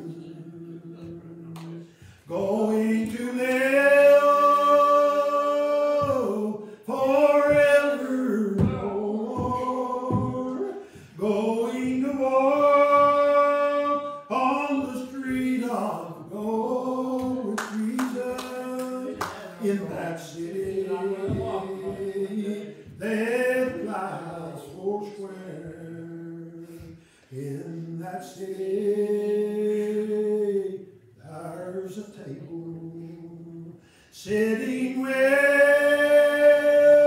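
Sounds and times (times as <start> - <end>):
man singing a hymn unaccompanied: 0.0 - 37.0.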